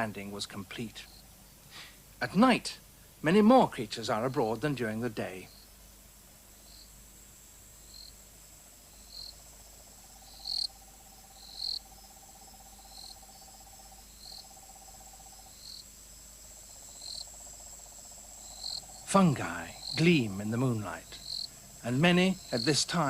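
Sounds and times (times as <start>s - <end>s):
high-pitched insect trill: 0.0s - 1.5s, 5.2s - 5.8s, 6.5s - 23.0s
insect chirps: 0.0s - 23.0s
low pulsing insect trill: 0.0s - 23.0s.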